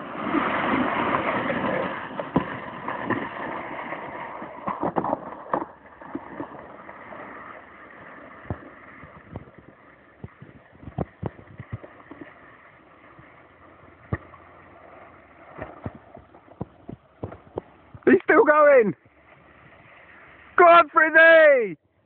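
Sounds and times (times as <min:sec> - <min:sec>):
sled scraping over icy snow: 0:00.0 - 0:22.0.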